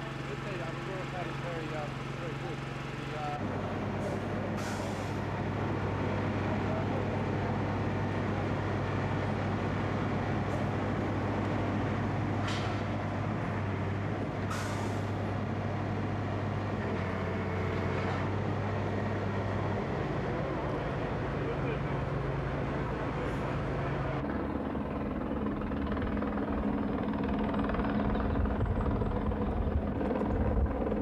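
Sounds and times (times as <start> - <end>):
engine idling drone: 0.0 - 31.0.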